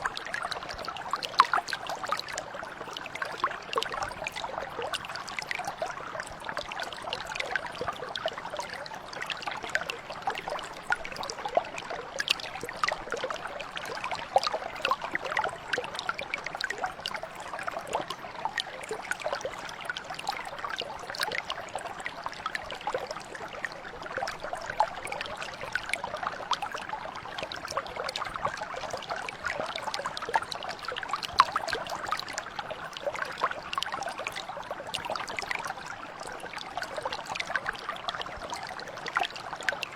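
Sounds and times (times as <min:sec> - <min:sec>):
mountain brook babbling: 0:00.0 - 0:39.9.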